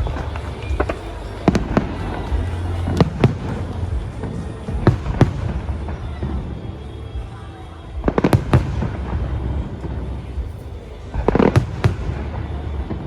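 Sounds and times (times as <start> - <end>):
fireworks bursting: 0.0 - 13.0
low rumble: 0.0 - 13.0.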